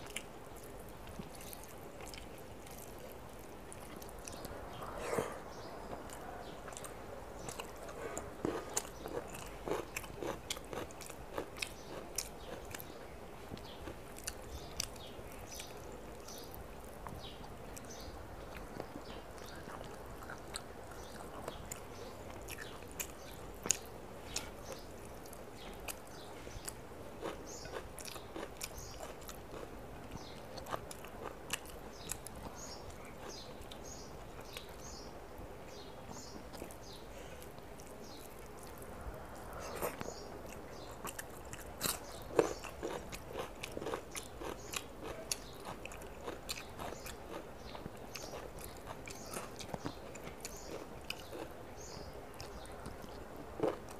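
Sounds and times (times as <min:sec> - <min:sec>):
chewing and lip smacks: 0:00.0 - 0:34.8, 0:36.1 - 0:53.9.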